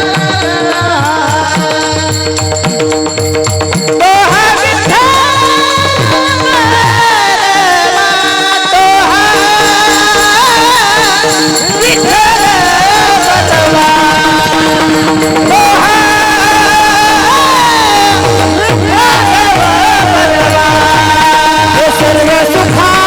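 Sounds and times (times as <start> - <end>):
steady held drone: 0.0 - 22.9
person singing devotional melody: 0.0 - 23.0.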